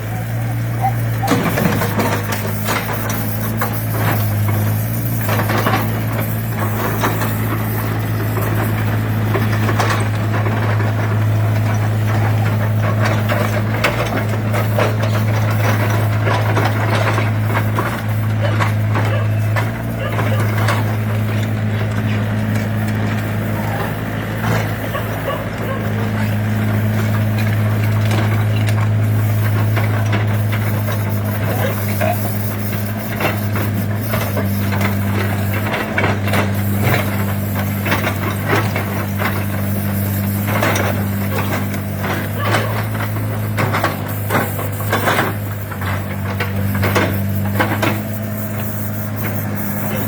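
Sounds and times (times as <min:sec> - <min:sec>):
excavator diesel engine running: 0:00.0 - 0:50.0
short knocks and clanks: 0:01.2 - 0:50.0.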